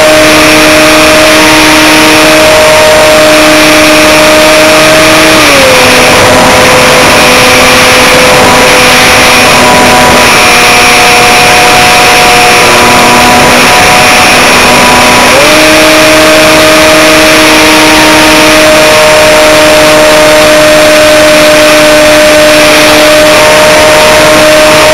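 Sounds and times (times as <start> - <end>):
electric motor and propeller buzzing: 0.0 - 24.9.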